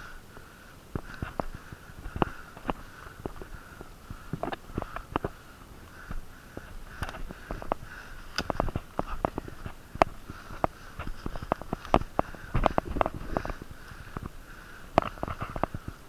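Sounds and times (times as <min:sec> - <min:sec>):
congested breathing through nose: 0:00.0 - 0:16.0.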